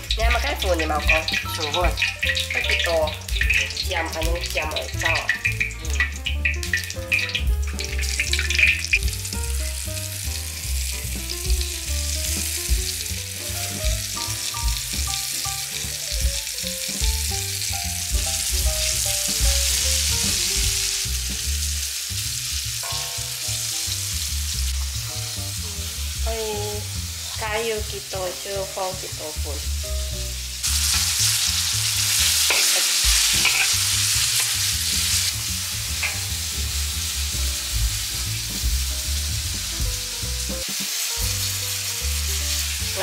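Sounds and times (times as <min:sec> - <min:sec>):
background music: 0:00.0 - 0:43.0
chicken sizzling in hot oil: 0:00.0 - 0:43.0.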